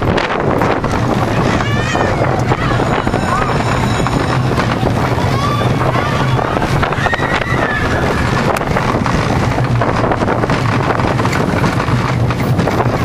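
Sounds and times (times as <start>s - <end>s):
roller coaster wheels rumbling: 0.0s - 13.0s
wind noise on microphone: 0.0s - 13.0s.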